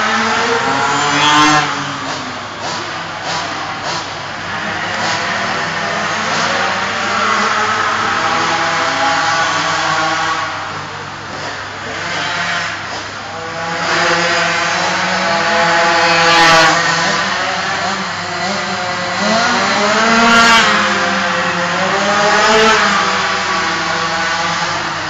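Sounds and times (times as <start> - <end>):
kart engines revving past: 0.0 - 25.0.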